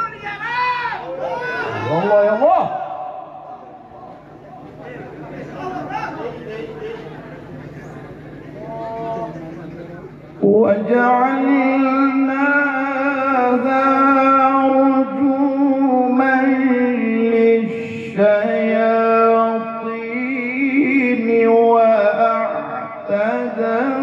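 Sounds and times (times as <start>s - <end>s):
man chanting melodically: 0.0s - 7.1s, 10.3s - 24.0s.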